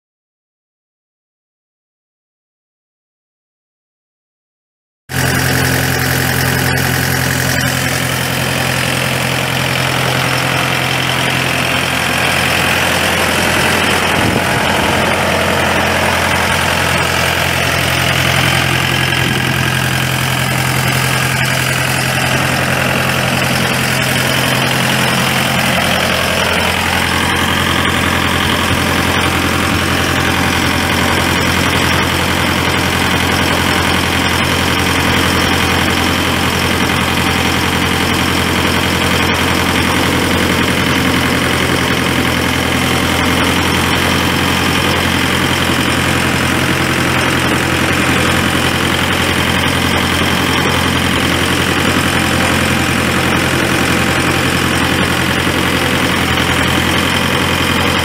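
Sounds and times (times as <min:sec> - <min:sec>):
diesel engine idling: 0:05.1 - 0:58.0.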